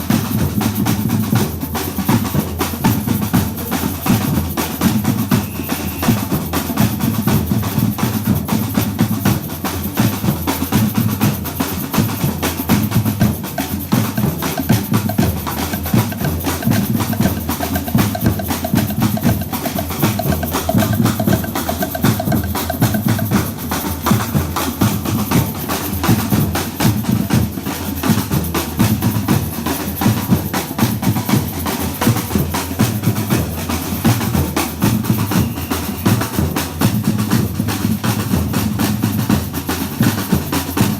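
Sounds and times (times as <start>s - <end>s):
sharp clicking high percussion: 0.0s - 40.9s
snare drum strokes: 4.1s - 9.4s, 12.0s - 40.9s.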